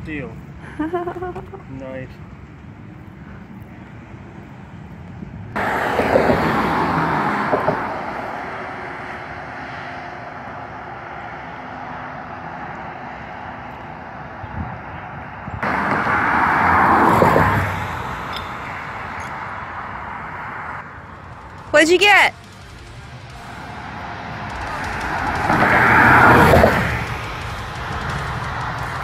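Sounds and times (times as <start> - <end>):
cars passing loudly: 0.0 - 29.0
road traffic passing: 0.0 - 29.0.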